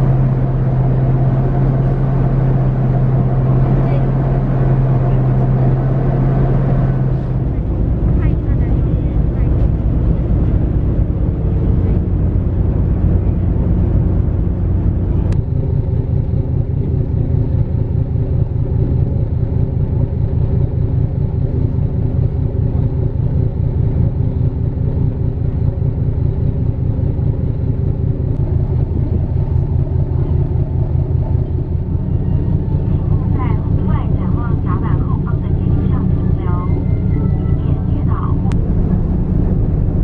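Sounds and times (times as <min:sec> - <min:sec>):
ship engine droning: 0:00.0 - 0:40.0.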